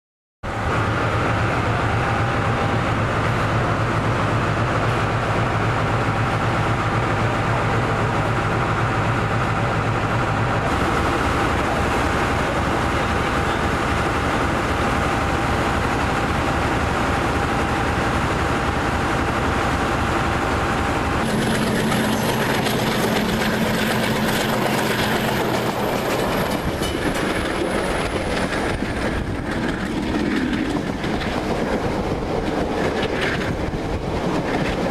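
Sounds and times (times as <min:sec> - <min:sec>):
diesel train idling hum: 0:00.5 - 0:32.9
train wheels running on rail: 0:00.5 - 0:34.9.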